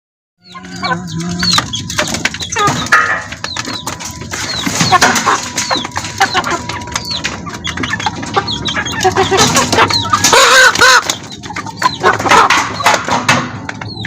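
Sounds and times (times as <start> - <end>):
hen calls: 0.4 - 12.6
chicks peeping: 0.4 - 14.0
clicks and rustles: 1.1 - 14.0.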